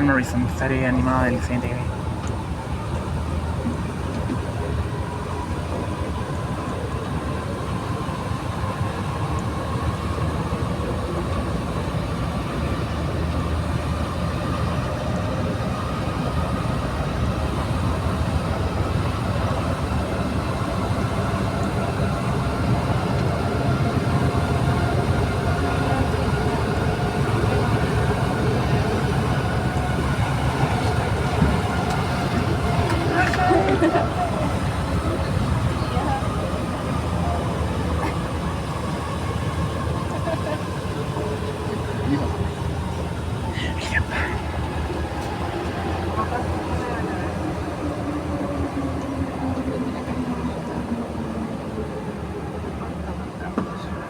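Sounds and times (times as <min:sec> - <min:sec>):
train rumble from inside car: 0:00.0 - 0:54.0.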